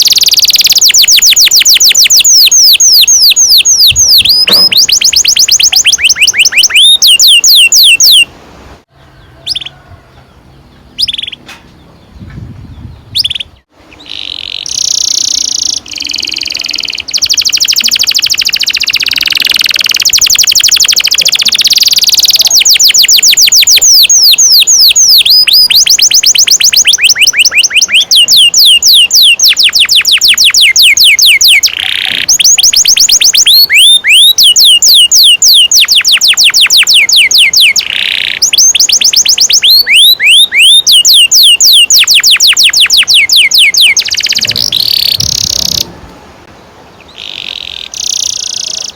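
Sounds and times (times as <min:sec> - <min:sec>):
canary singing: 0:00.0 - 0:08.3, 0:08.9 - 0:46.0, 0:46.9 - 0:48.9.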